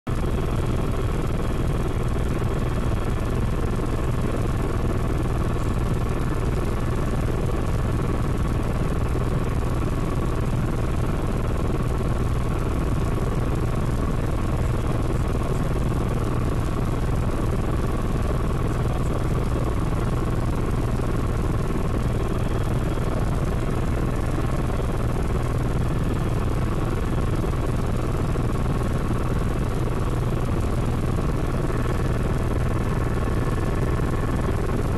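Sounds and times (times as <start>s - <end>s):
faint constant whine: 0.1s - 34.9s
helicopter rotor and engine drone: 0.1s - 34.9s.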